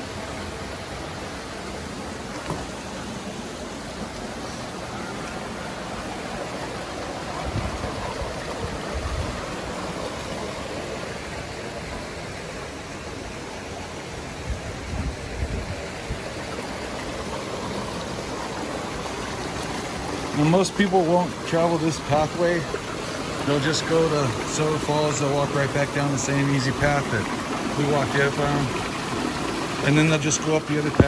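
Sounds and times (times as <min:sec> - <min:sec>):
water rushing over boulders: 0:00.0 - 0:31.0.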